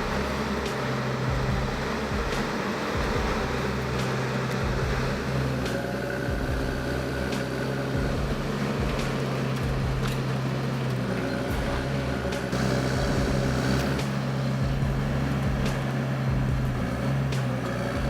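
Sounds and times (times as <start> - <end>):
heavy machine engine humming: 0.0 - 18.0.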